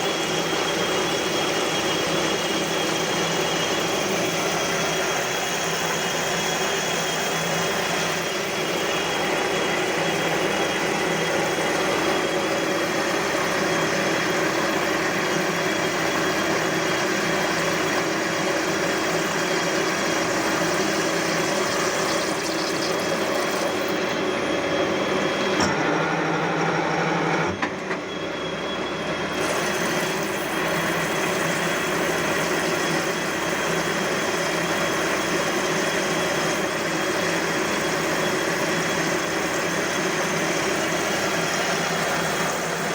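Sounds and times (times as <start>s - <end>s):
lathe hum with high whine: 0.0s - 42.9s.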